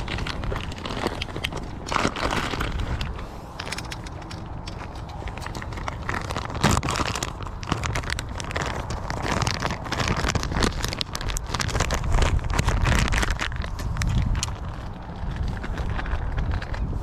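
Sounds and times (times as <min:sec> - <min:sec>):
plastic package crinkling: 0:00.0 - 0:17.0
wind rumble on microphone: 0:00.0 - 0:17.0.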